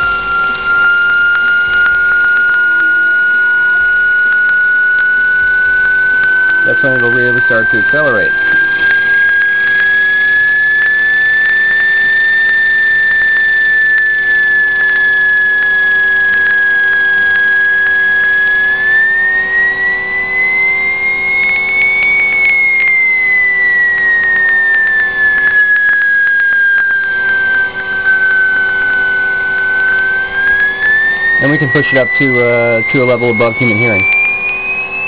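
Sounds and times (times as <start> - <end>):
high continuous whistling tone: 0.0 - 35.0.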